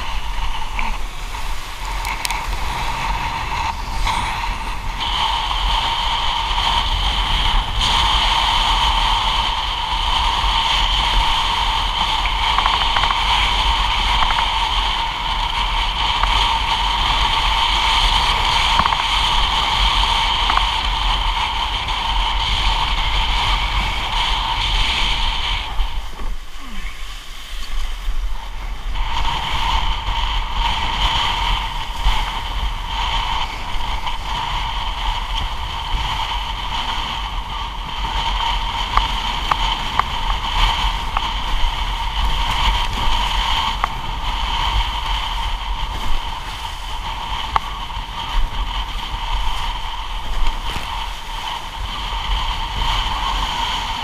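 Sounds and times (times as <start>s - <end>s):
water rushing past a board: 0.0s - 54.0s
wind buffeting a camera: 0.0s - 54.0s.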